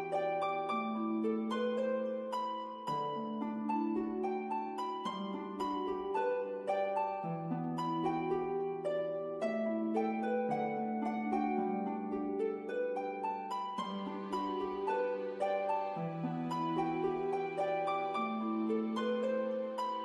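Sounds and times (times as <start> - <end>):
slow gentle instrumental melody: 0.0 - 20.0.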